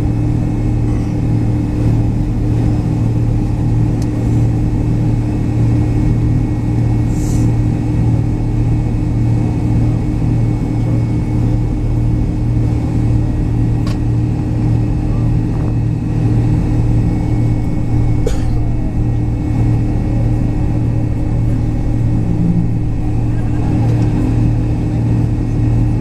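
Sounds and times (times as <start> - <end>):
jet engine cabin drone: 0.0 - 26.0.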